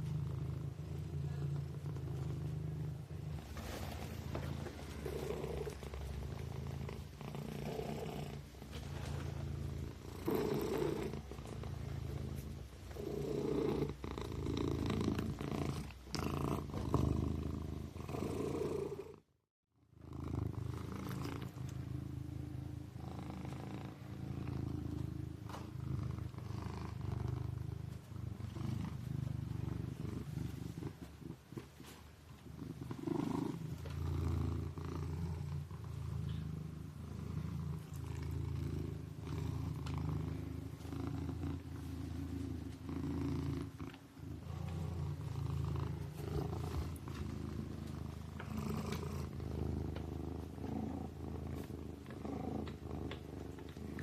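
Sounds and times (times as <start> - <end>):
kitten purring: 0.0 - 54.0.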